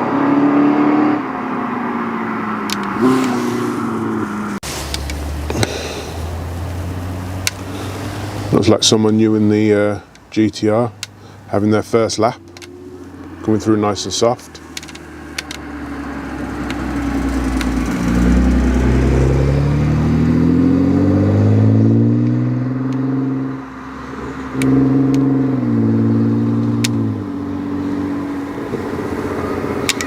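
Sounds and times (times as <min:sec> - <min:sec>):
car engine accelerating: 0:00.0 - 0:08.9, 0:11.5 - 0:30.0.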